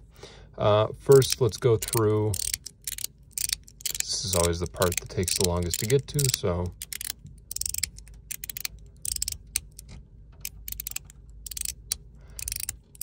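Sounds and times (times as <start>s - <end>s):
fidget slider clicking: 1.1s - 13.0s.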